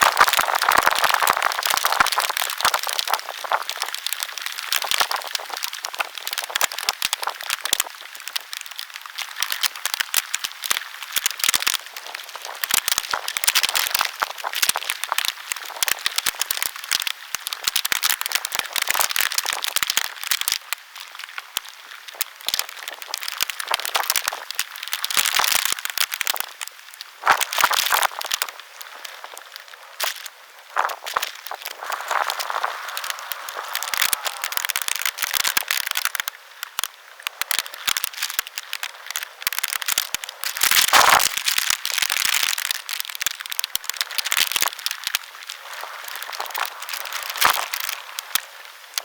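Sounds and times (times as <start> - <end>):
heavy rain hissing and crackling: 0.0 - 49.0.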